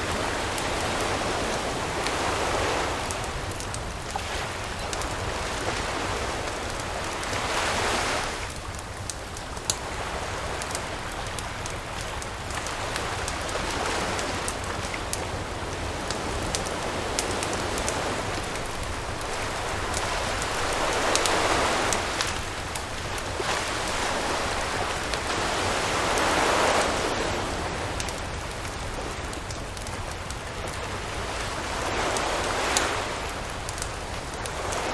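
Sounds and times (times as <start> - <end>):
campfire crackling and popping: 0.0 - 34.9
surf washing on beach: 0.0 - 34.9.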